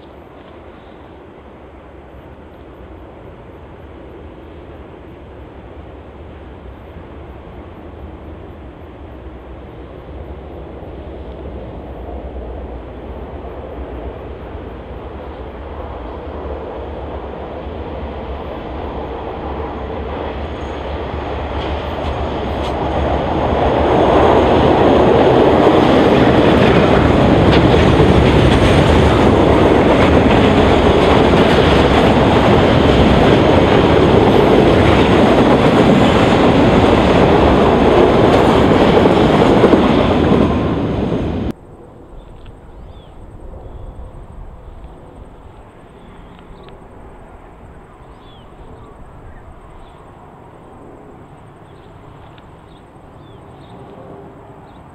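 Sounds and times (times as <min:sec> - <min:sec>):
diesel locomotive approaching: 0:00.0 - 0:54.9
train wheels on rails: 0:00.0 - 0:54.9.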